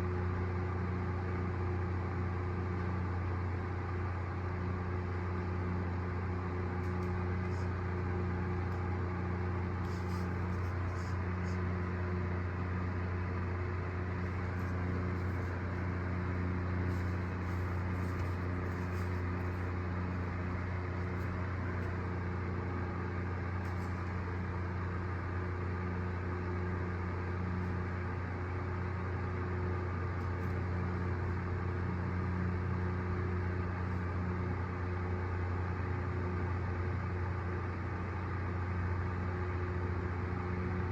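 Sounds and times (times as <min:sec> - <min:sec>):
low machine hum: 0:00.0 - 0:40.9.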